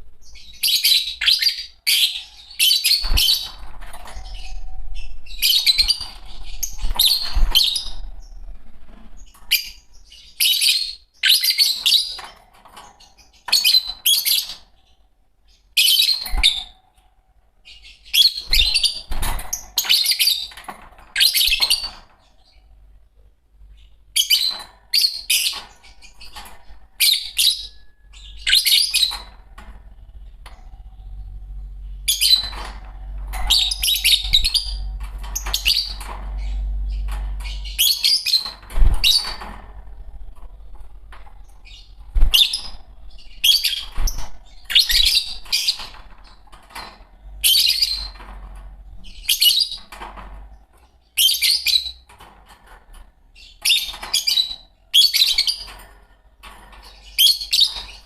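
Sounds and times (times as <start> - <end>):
lovebirds chirping: 0.0 - 52.3, 52.9 - 58.0
low background hum: 0.0 - 58.0.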